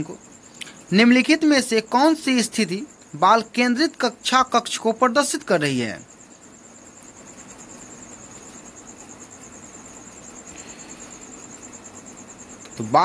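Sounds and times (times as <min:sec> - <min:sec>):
faint background hiss: 0:00.0 - 0:13.0
insect chirping: 0:00.0 - 0:13.0.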